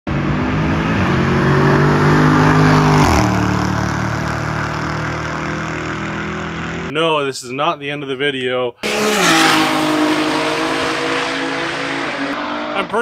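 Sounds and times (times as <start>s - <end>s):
car engine revving: 0.1s - 6.9s, 8.8s - 13.0s.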